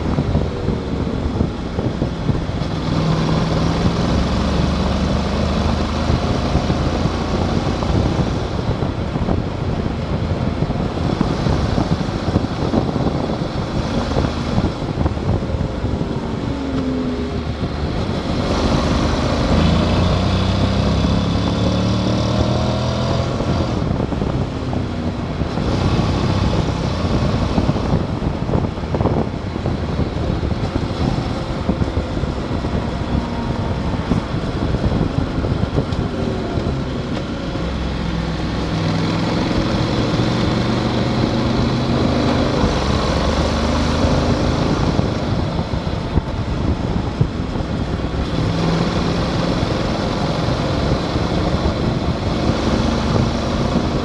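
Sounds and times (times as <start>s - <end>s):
motorcycle engine accelerating: 0.0s - 54.0s
wind rush on microphone: 0.0s - 54.0s.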